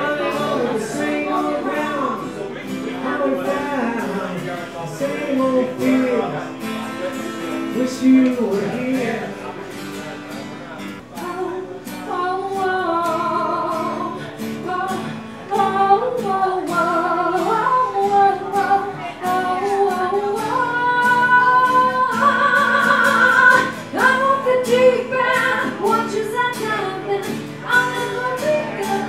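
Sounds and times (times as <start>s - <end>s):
woman singing: 0.0s - 6.4s, 11.2s - 29.0s
strummed acoustic guitar: 0.0s - 29.0s.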